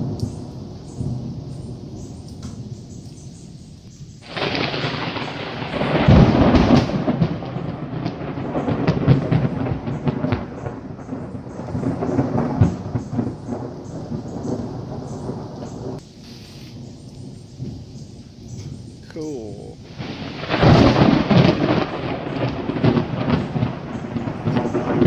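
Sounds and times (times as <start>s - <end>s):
thunder rolling and rumbling: 0.0s - 25.0s.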